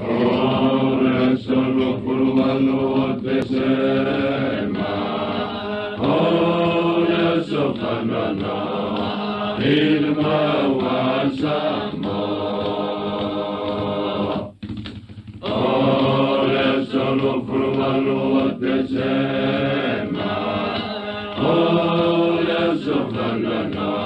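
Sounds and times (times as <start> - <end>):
voices singing in chanting style: 0.0 - 14.6, 15.4 - 24.0.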